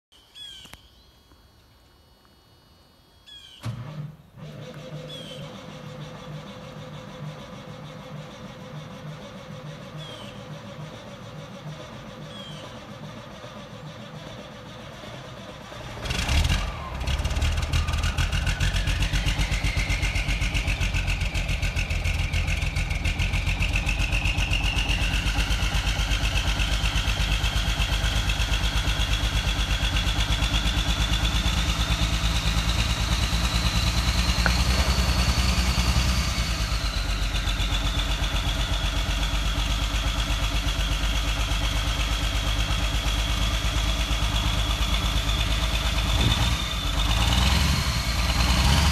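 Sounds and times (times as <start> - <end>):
high engine whine: 0.7 - 48.9
diesel engine starting and running: 3.3 - 48.9.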